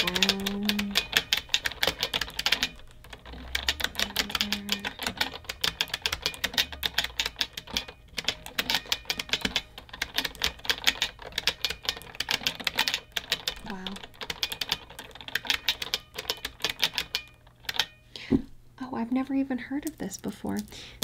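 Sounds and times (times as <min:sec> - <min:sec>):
mechanical keyboard typing: 0:00.0 - 0:18.0.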